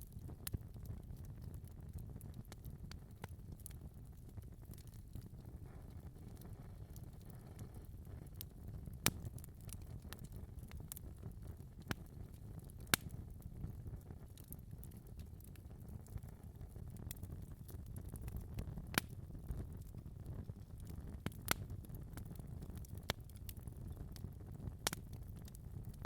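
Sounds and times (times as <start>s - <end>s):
fire crackling pops: 0.0s - 26.0s
low rumble of flames: 0.0s - 26.0s.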